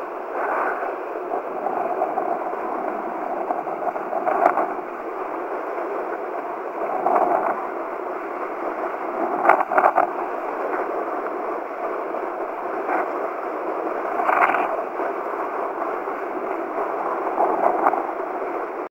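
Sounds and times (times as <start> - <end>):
wind and water rushing: 0.0 - 18.9.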